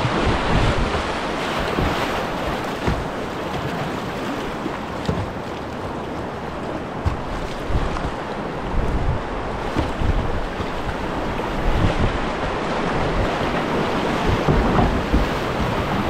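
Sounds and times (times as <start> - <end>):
short water splashes: 0.0 - 16.0
wind buffeting microphone: 0.0 - 16.0.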